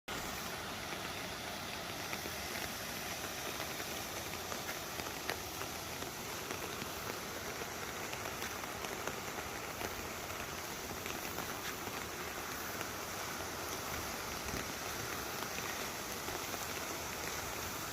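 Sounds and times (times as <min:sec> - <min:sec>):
water hiss with small splashes: 0:00.1 - 0:17.9.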